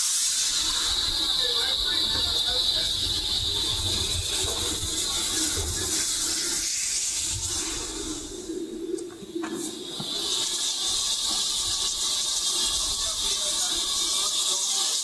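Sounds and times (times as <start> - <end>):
steam hissing: 0.0 - 15.0
train rumble: 0.3 - 14.2.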